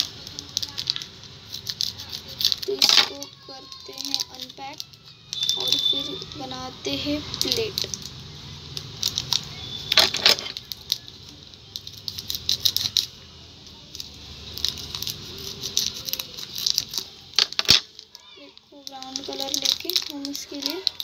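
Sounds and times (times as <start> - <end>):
scissors cutting plastic: 0.0 - 13.2, 13.9 - 21.0
plastic wrapper crinkling: 0.0 - 21.0.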